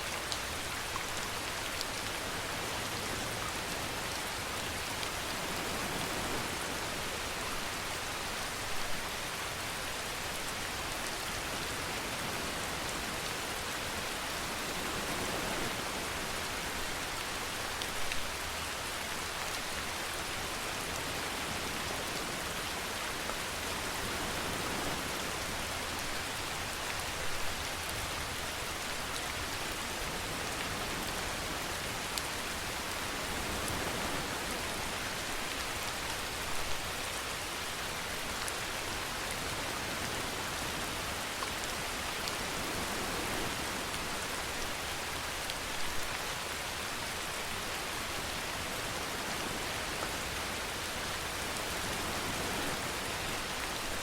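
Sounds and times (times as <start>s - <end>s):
rain on surfaces: 0.0s - 54.0s.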